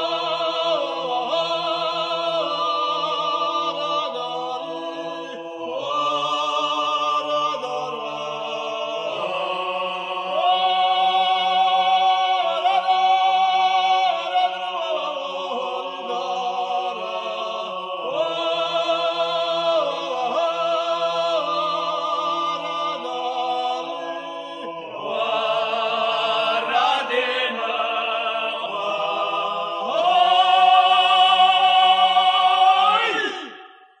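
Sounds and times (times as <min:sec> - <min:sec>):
voices singing folk song: 0:00.0 - 0:34.0.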